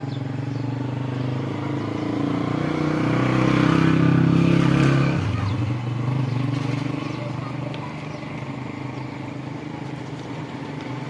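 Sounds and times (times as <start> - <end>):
motor vehicle engine running: 0.0 - 11.0.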